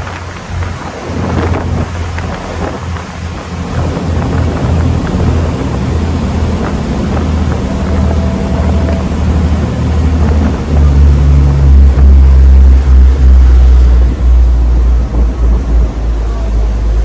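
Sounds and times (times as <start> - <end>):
ship diesel engines rumbling: 0.0 - 17.0.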